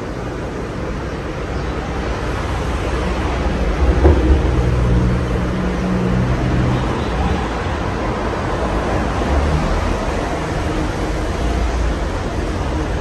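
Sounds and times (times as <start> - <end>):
ceiling fan air rush and rumble: 0.0 - 13.0.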